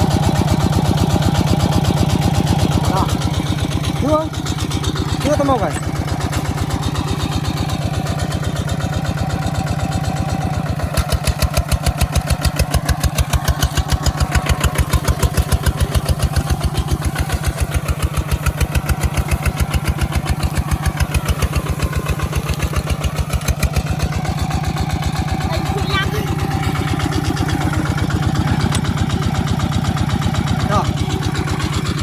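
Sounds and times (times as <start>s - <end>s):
single-cylinder diesel engine running: 0.0s - 32.0s.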